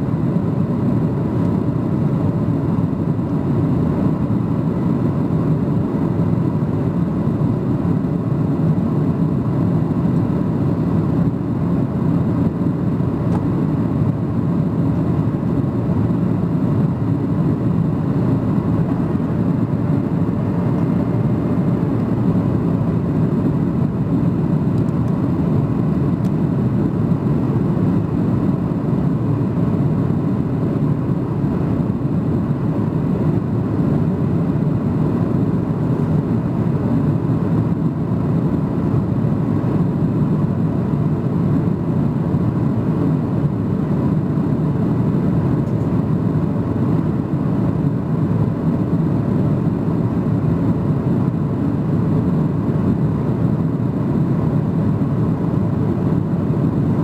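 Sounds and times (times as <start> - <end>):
airplane cabin jet engine drone: 0.0 - 57.0
faint steady whine: 0.0 - 57.0.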